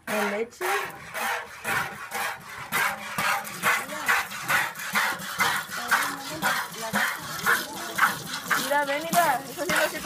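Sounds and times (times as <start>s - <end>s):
milk squirting into pail: 0.0s - 10.0s.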